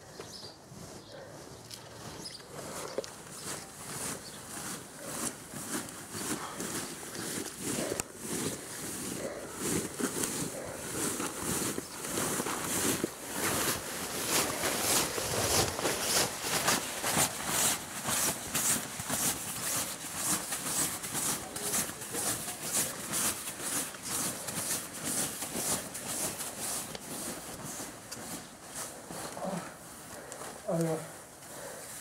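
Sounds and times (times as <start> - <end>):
nylon costume and plastic bags rustling: 0.0 - 32.0.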